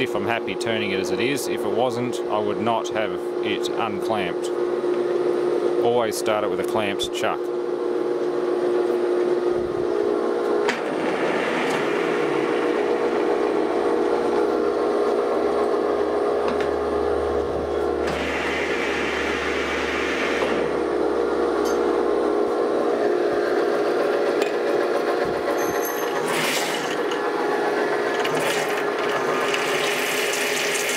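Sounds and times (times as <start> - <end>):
lathe motor hum and gear whine: 0.0 - 30.9.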